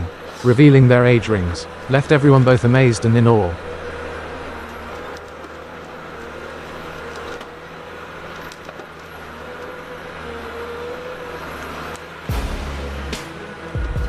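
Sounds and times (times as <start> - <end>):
machinery engine droning: 0.0 - 14.0.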